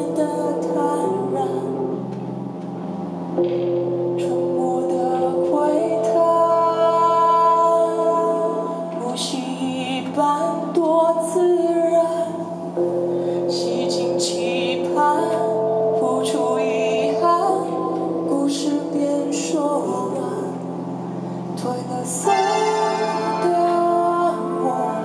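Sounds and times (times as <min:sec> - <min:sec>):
woman singing: 0:00.0 - 0:02.1, 0:04.2 - 0:25.0
held synthesizer chords: 0:00.0 - 0:25.0.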